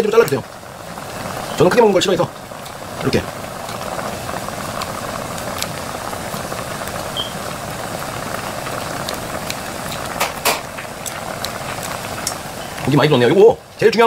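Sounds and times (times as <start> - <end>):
gas burner hissing: 0.0 - 14.0
stew boiling: 0.0 - 14.0.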